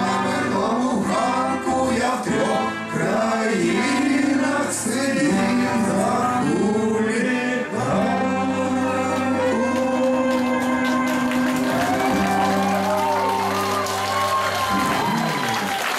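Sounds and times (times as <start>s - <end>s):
live rock band playing: 0.0s - 7.0s, 7.8s - 15.8s
man singing: 0.0s - 13.5s.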